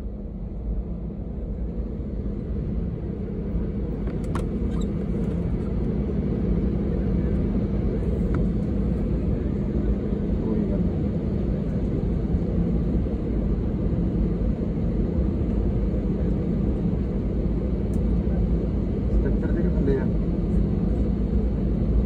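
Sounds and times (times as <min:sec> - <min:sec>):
aircraft cabin low rumble: 0:00.0 - 0:22.0
jet engine hum: 0:00.0 - 0:22.0.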